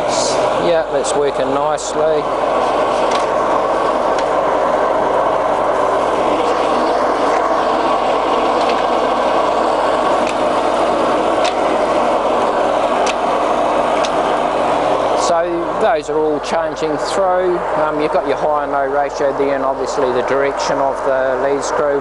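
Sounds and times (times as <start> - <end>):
lathe gear whir: 0.0 - 22.0.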